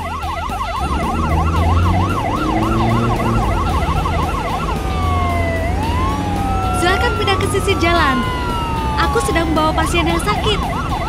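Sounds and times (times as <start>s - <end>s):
ambulance siren: 0.0s - 11.0s
low rumble: 0.3s - 11.0s.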